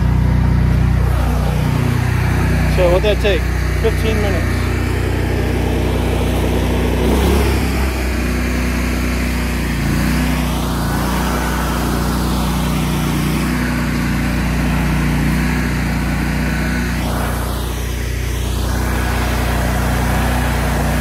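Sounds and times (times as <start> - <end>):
stump grinder engine running: 0.0 - 21.0.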